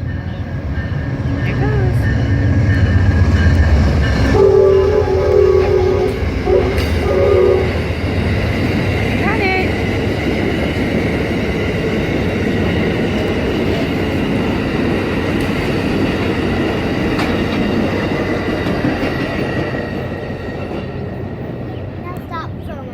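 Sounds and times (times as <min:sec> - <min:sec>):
train rumbling past: 0:00.0 - 0:22.9
wheels clickety-clack: 0:00.8 - 0:07.1, 0:07.8 - 0:22.9.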